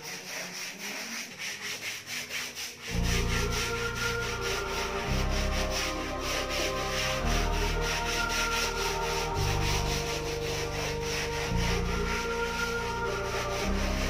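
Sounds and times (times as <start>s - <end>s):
brush scrubbing straw mat: 0.0s - 14.0s.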